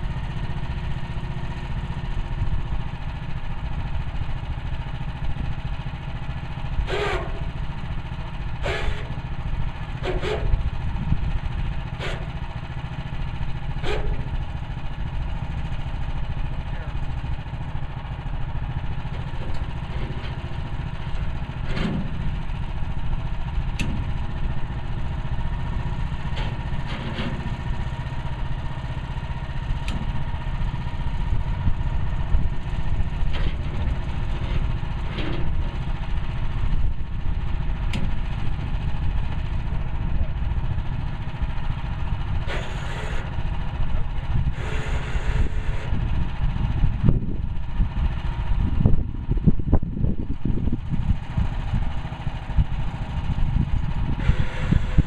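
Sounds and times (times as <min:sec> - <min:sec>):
small gas engine running: 0:00.0 - 0:55.0.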